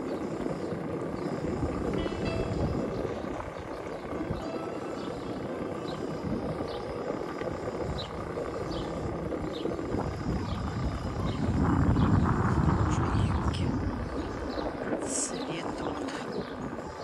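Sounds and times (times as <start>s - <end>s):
bicycle tyres rolling on paving: 0.0s - 17.0s
wind on microphone: 0.0s - 17.0s.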